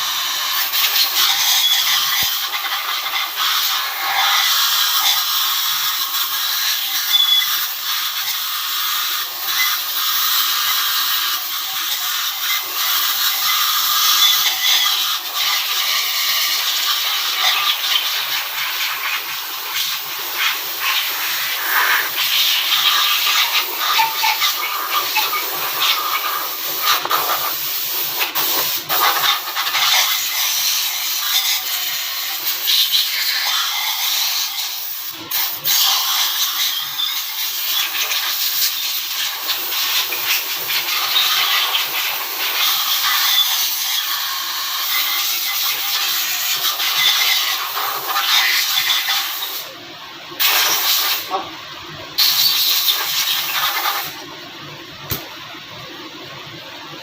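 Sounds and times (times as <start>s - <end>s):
loud steady hissing: 0.0s - 57.0s.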